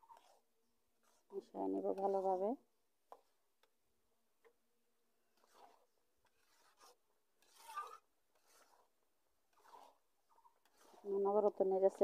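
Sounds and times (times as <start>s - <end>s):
spatula scraping a pan: 0.0s - 3.7s, 5.3s - 12.0s.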